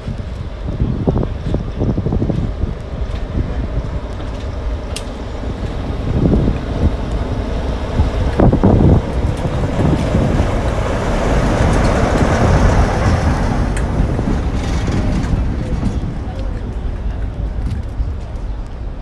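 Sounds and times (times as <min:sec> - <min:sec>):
diesel locomotive engine rumbling: 0:00.0 - 0:19.0
wind buffeting microphone: 0:00.0 - 0:19.0.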